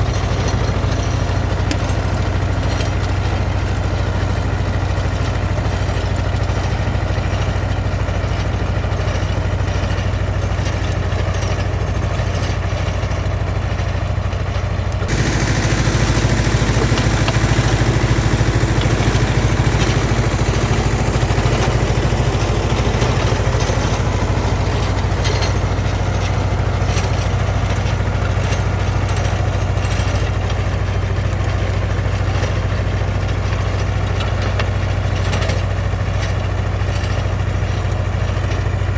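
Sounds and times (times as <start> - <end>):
rotary tiller through soil: 0.0 - 38.9
tractor diesel engine running: 0.0 - 38.9.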